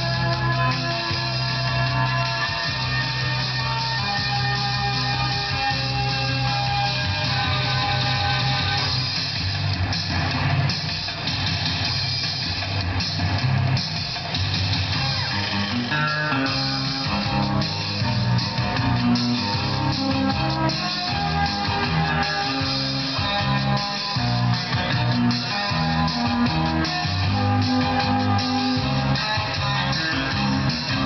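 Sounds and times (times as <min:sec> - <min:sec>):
instrumental dance music: 0:00.0 - 0:31.0.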